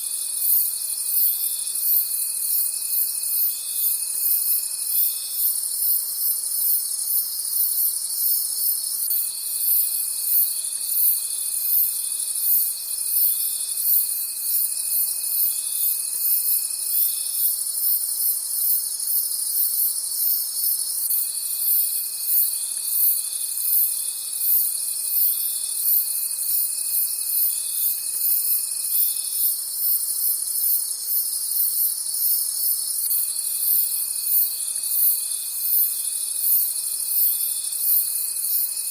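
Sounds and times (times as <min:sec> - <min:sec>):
crickets chirping: 0:00.0 - 0:38.9
lower continuous insect note: 0:00.0 - 0:38.9.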